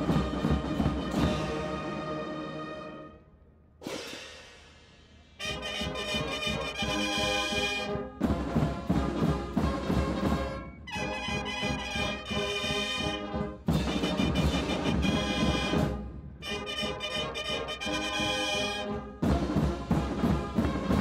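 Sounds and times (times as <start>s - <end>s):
brass band playing a march: 0.0s - 4.0s, 5.4s - 21.0s.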